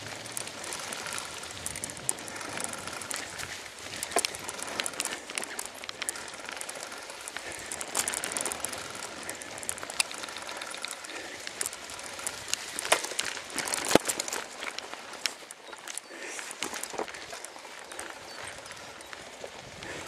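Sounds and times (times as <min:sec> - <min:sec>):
bicycle tyres on rough grass: 0:00.0 - 0:20.0
bike clicks and rattles: 0:00.0 - 0:20.0.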